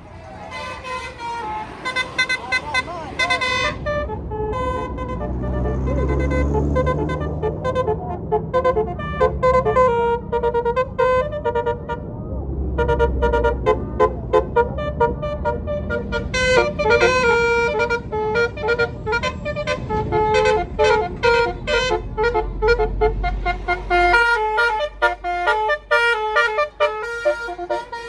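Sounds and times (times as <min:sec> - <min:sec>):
bus engine rumble: 0:00.0 - 0:28.0
musical air horn playing a tune: 0:00.5 - 0:12.0, 0:12.8 - 0:28.0.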